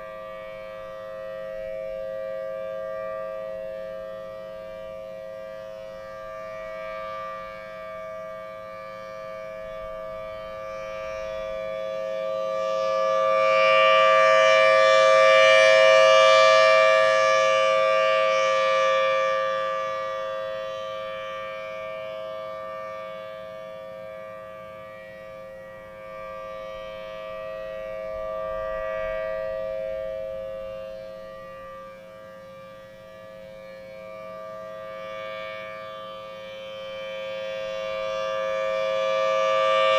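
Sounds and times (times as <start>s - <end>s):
two-note warning siren: 0.0s - 39.9s.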